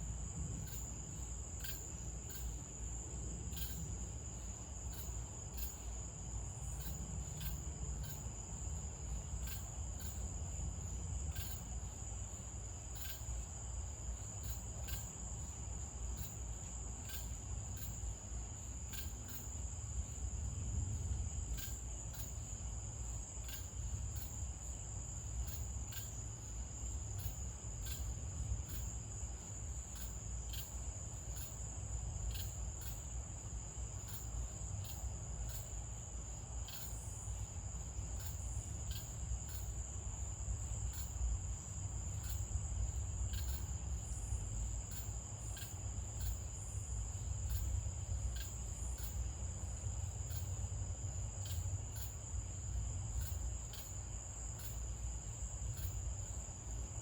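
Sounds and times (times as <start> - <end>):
cricket trill: 0.0 - 57.0
sharp insect chirps: 0.0 - 57.0.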